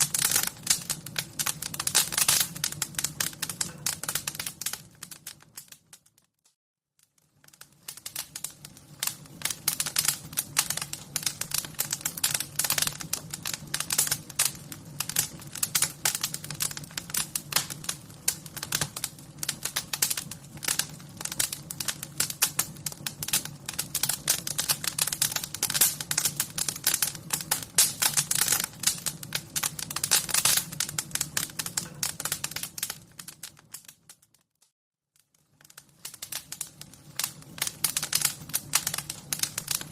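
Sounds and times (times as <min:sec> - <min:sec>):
wood fire crackling: 0:00.0 - 0:06.3, 0:07.0 - 0:34.5, 0:35.2 - 0:39.9.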